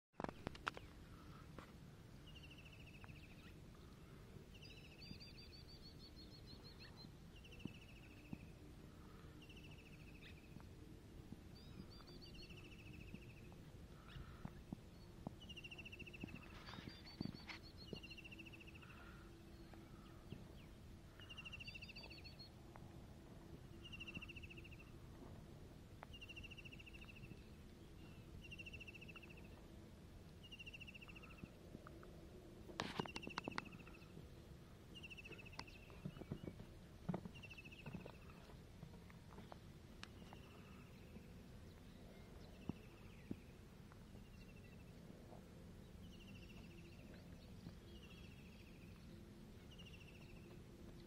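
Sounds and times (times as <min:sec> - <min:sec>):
low steady background hum: 0:00.2 - 0:51.0.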